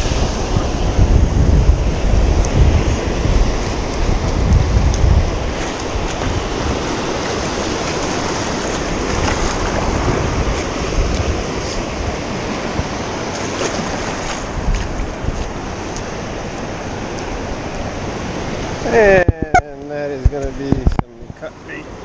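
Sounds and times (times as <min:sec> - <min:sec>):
ocean surf washing onto beach: 0:00.0 - 0:22.0
wind buffeting microphone: 0:00.0 - 0:22.0.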